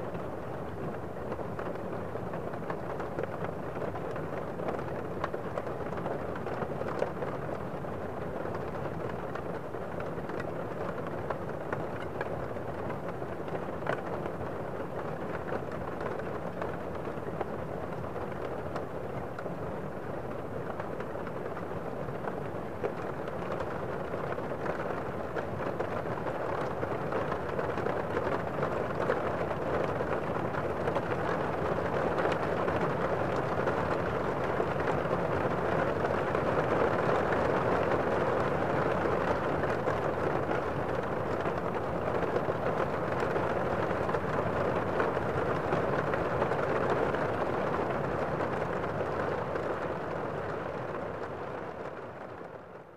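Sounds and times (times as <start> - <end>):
rain falling on leaves: 0.1 - 52.6.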